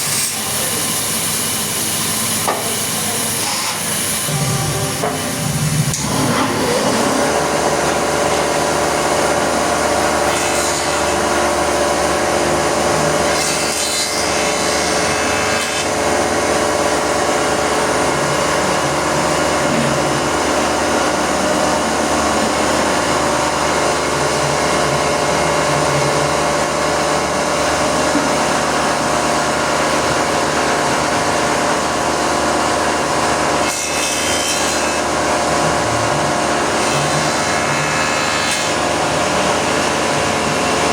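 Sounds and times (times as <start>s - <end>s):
wood planer cutting wood: 5.0s - 40.9s.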